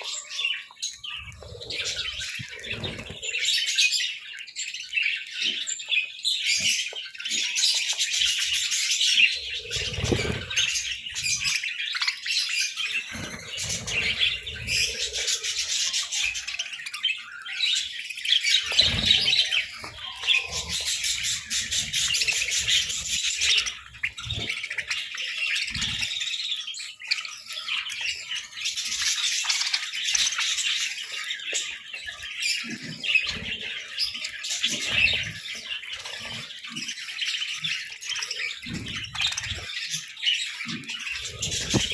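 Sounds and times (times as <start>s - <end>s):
budgerigars chattering: 0.0s - 4.1s, 5.0s - 41.9s.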